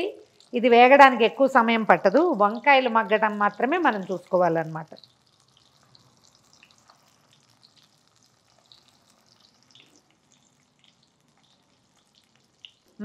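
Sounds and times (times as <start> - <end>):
oil popping: 0.0 - 13.0
vegetables sizzling in oil: 0.0 - 13.0.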